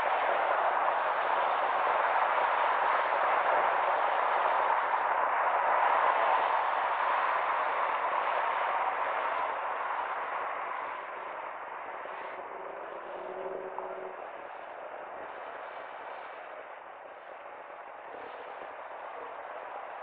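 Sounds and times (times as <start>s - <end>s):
road traffic hiss: 0.0s - 20.0s.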